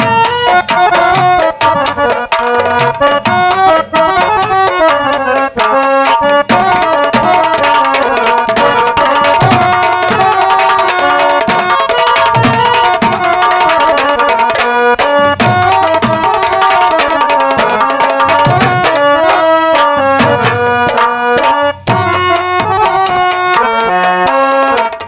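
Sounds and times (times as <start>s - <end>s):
hand drums drumming: 0.0s - 25.0s
harmonium melody: 0.0s - 25.0s.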